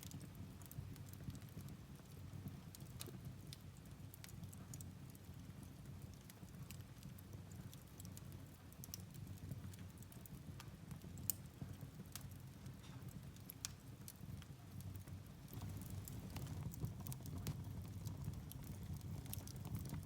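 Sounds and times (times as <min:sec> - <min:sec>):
firewood crackling and popping: 0:00.0 - 0:20.0
low rumble of fire: 0:00.0 - 0:20.0.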